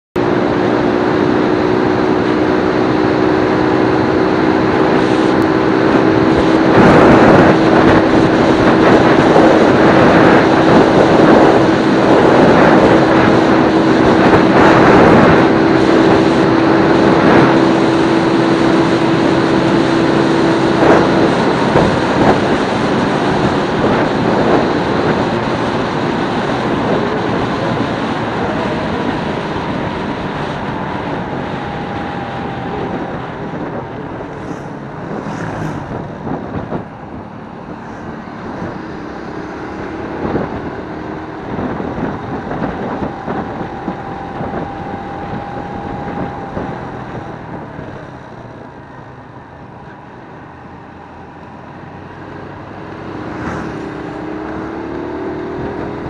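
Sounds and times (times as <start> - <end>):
motorcycle engine hum: 0.2 - 56.0
wind rushing over microphone: 0.2 - 56.0.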